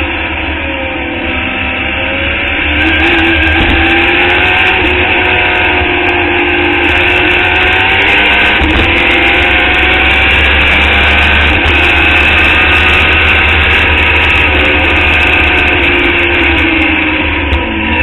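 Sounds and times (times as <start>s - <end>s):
low rumble of wind and road: 0.0s - 18.0s
race car engine running hard: 0.0s - 18.0s.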